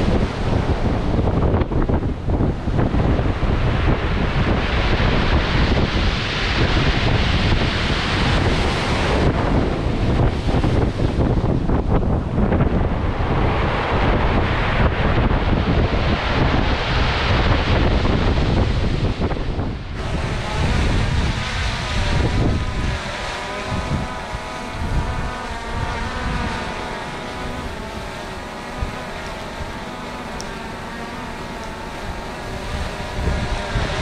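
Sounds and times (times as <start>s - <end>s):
faint steady hum: 0.0s - 34.0s
wind buffeting microphone: 0.0s - 34.0s.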